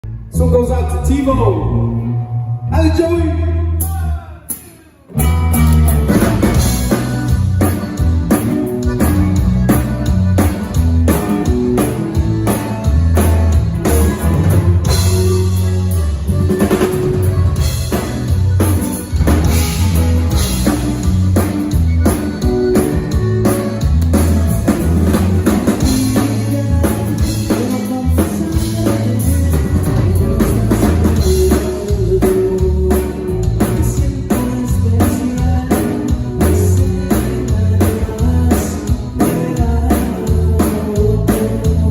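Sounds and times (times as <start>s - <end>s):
guitar: 0.0s - 41.9s
drum kit with rimshots: 3.8s - 41.9s
heavy bass line: 5.1s - 41.9s.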